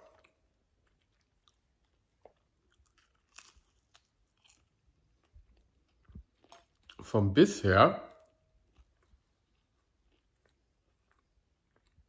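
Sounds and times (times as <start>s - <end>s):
chewing crunchy food: 0.0s - 7.3s, 8.1s - 12.0s.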